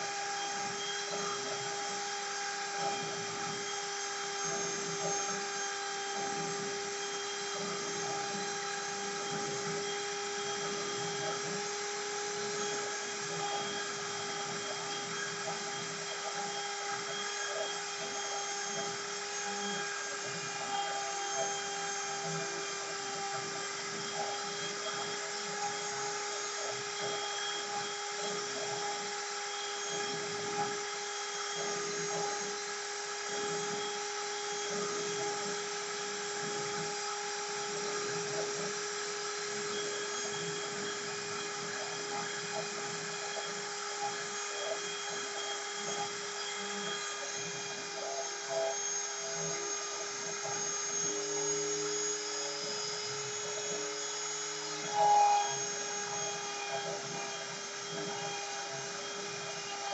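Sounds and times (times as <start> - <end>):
bit cutting material: 0.0 - 59.9
router spindle whine: 0.0 - 59.9.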